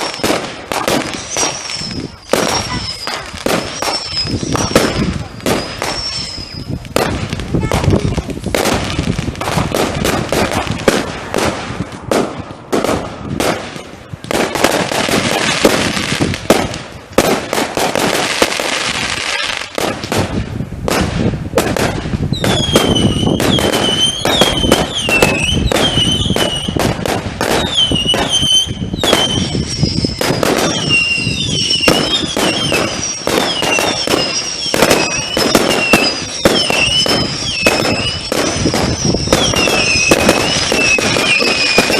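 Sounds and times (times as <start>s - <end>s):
fireworks bangs and crackles: 0.0s - 41.9s
fireworks whistling: 0.0s - 41.9s.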